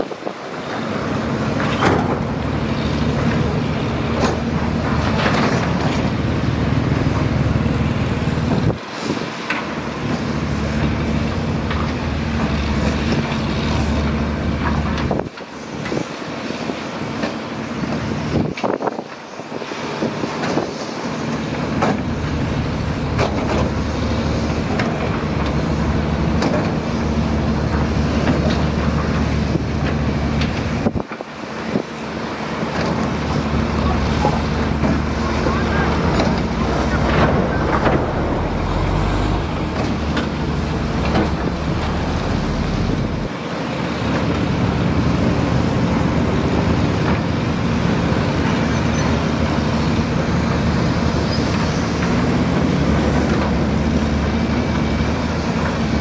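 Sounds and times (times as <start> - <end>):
diesel engine running: 0.0 - 18.6, 19.5 - 56.0.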